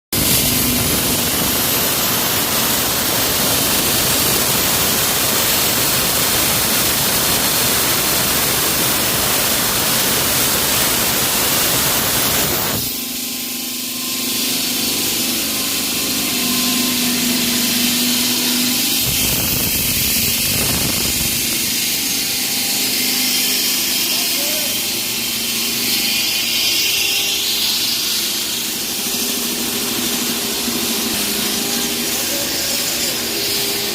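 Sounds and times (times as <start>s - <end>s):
power tools running: 0.2s - 33.9s.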